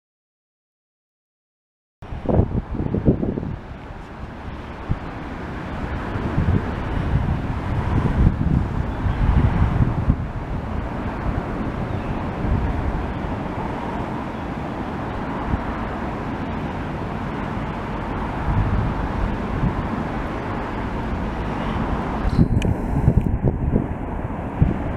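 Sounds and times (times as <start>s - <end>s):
ocean surf rushing: 2.0s - 24.9s.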